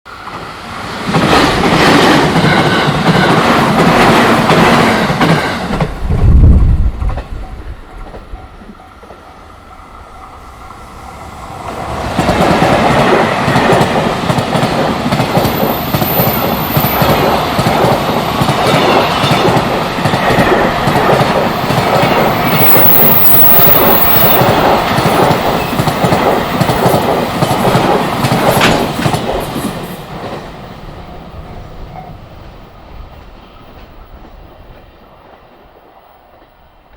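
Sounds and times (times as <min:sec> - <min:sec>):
train wheels clattering over rails: 0:00.3 - 0:09.2, 0:11.6 - 0:32.3.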